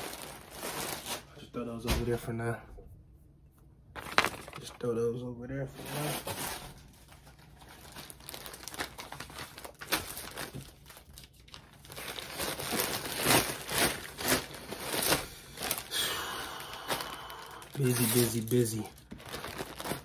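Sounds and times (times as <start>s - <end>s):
plastic packaging crinkling: 0.0s - 1.4s, 4.0s - 4.8s, 5.7s - 20.0s.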